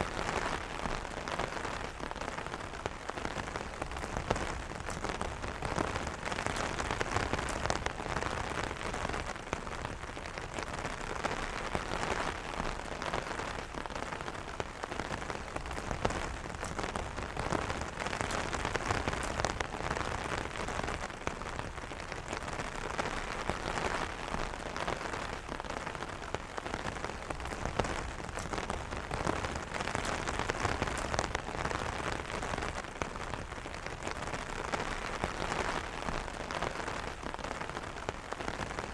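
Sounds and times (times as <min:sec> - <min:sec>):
rain pattering on an umbrella: 0:00.0 - 0:38.9.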